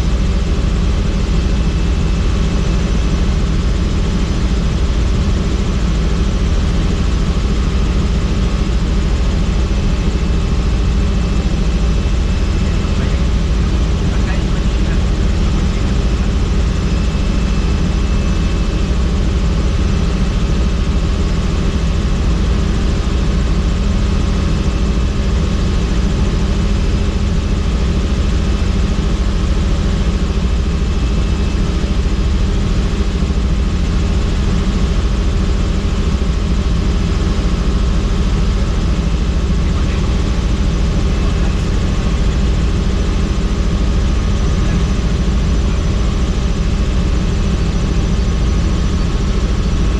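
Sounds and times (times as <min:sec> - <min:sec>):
helicopter rotor and engine drone: 0:00.0 - 0:49.9.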